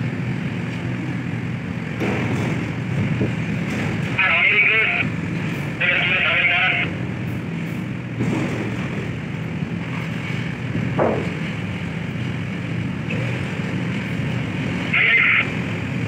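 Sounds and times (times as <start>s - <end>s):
heavy machinery drone: 0.0s - 16.0s.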